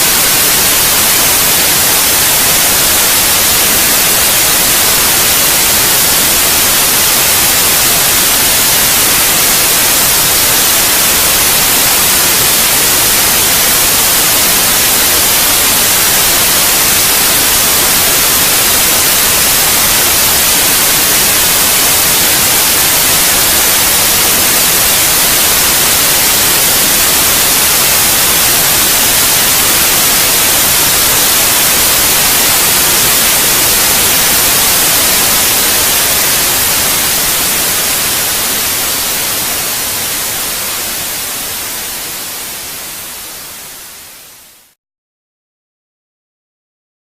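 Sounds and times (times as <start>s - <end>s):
white noise hiss: 0.0s - 44.8s.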